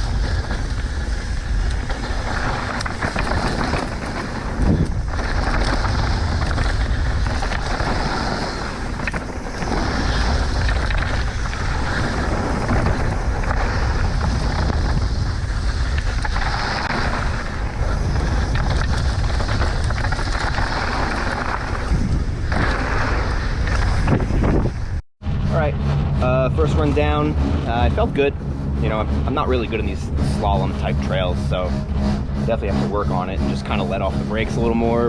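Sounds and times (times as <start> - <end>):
bike tyres rumbling and rattling: 0.0 - 35.0
wind buffeting microphone: 0.0 - 35.0.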